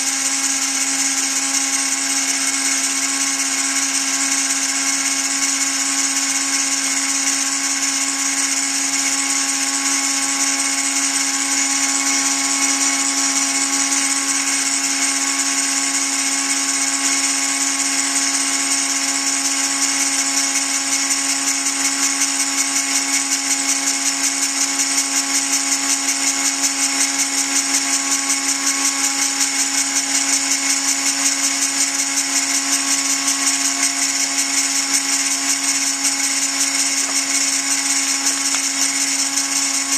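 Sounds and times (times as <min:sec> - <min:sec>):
rotary tool motor whine: 0:00.0 - 0:39.9.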